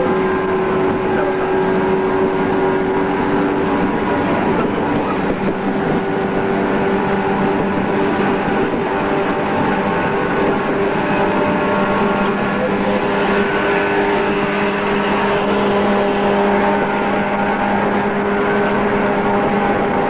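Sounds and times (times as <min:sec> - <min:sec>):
electric train motor whine: 0:00.0 - 0:20.0
wheels on rails: 0:00.0 - 0:20.0.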